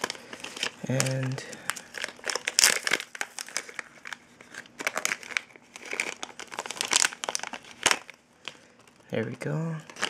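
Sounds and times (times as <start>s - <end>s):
plastic packet crinkling: 0.0s - 10.0s.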